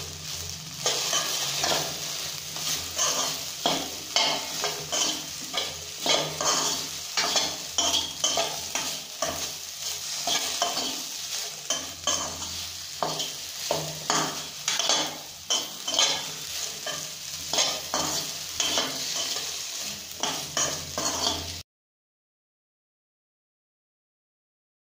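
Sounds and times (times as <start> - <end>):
metal spoon scraping a pan: 0.0 - 21.6
okra sizzling in a pan: 0.0 - 21.6.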